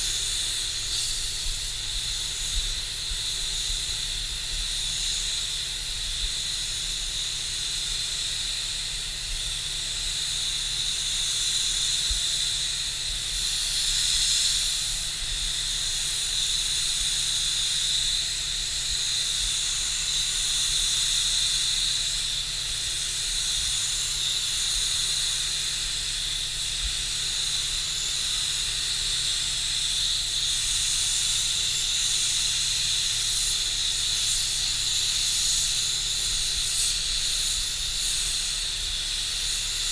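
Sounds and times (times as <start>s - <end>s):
spray gun hissing: 0.0s - 39.9s
steady low hum: 0.0s - 39.9s.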